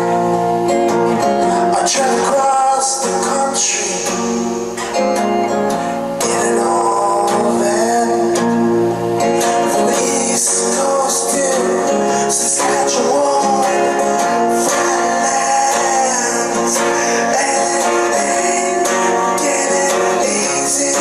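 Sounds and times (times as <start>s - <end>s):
strummed guitar song: 0.0s - 21.0s.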